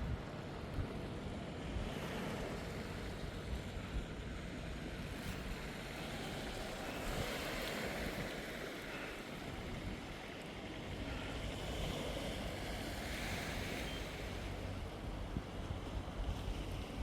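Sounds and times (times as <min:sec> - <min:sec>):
sea waves rushing: 0:00.2 - 0:17.0.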